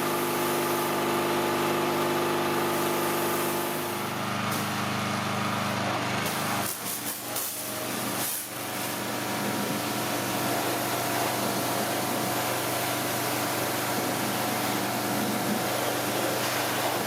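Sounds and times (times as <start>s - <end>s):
small engine-driven machine running: 0.0s - 17.0s.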